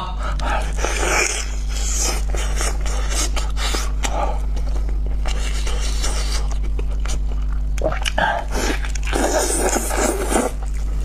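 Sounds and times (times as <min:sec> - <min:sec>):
steady low hum: 0:00.0 - 0:11.0
chewing sticky meat: 0:00.3 - 0:11.0.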